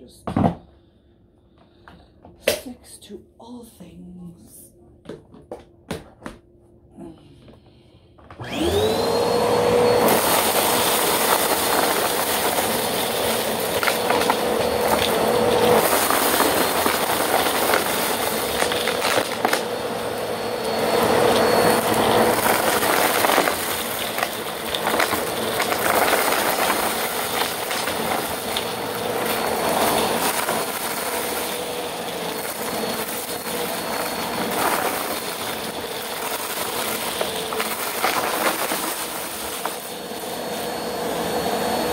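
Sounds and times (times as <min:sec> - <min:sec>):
vacuum cleaner motor whine: 0:07.4 - 0:41.9.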